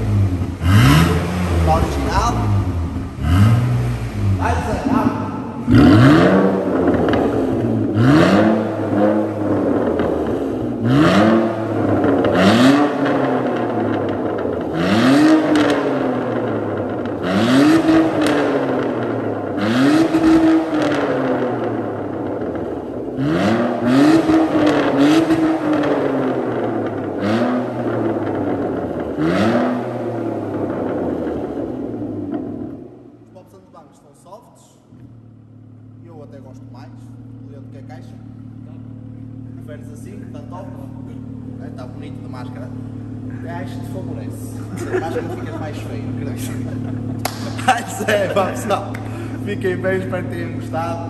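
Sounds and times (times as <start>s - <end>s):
car engine revving in blips: 0.0s - 33.3s, 34.8s - 51.0s
exhaust crackles and pops: 0.0s - 34.0s, 34.9s - 51.0s.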